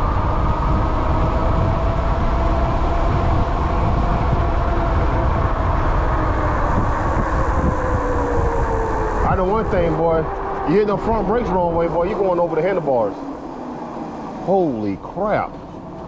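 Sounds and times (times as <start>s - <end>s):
electric motor whining: 0.0s - 14.8s
wind rumble on microphone: 0.0s - 16.0s.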